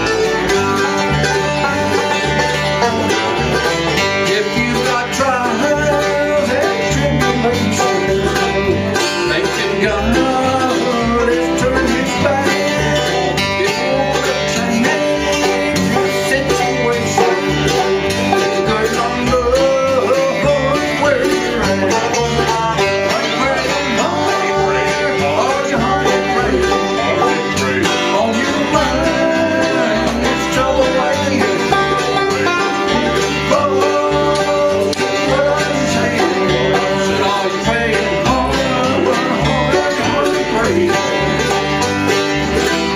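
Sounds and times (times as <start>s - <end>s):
banjo: 0.0s - 42.9s
guitar picking: 0.0s - 42.9s
mandolin: 0.0s - 42.9s
upright bass: 0.0s - 42.9s.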